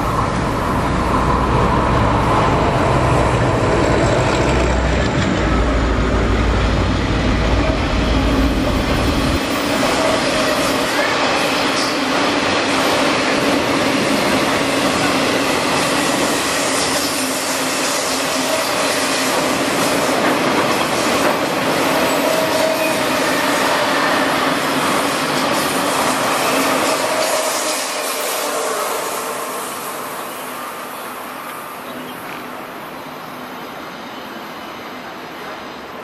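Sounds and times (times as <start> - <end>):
freight train wheels on rails: 0.0 - 36.0.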